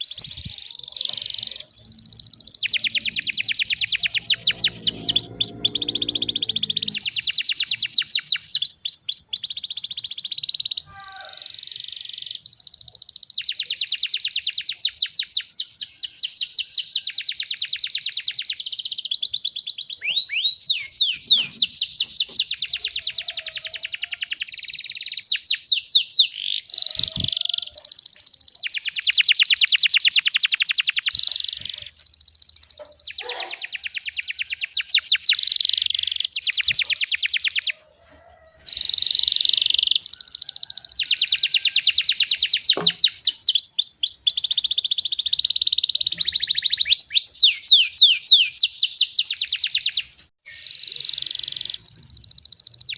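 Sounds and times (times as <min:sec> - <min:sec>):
canary singing rapid trills: 0:00.0 - 0:37.8, 0:38.6 - 0:52.9.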